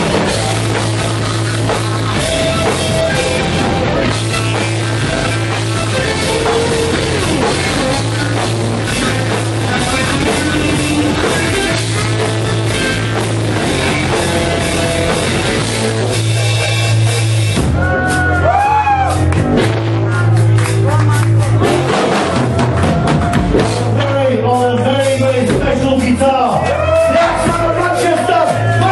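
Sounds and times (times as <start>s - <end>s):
bass guitar: 0.0s - 28.9s
drum kit: 0.0s - 28.9s
electric guitars: 0.0s - 28.9s.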